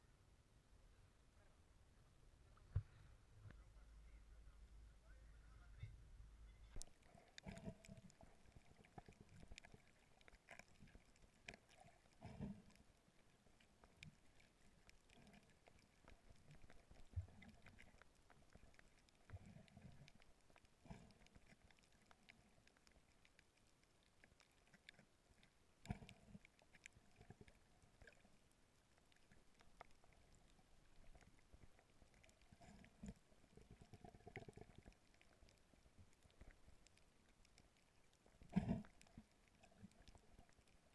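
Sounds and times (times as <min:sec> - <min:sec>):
underwater clicks and crackles: 0:06.6 - 0:40.9.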